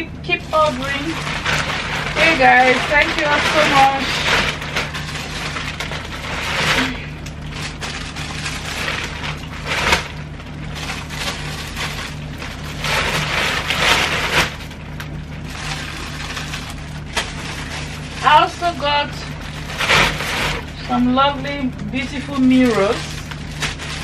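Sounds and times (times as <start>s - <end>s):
steady low hum: 0.0s - 24.0s
plastic bag rustling and crinkling: 0.2s - 24.0s.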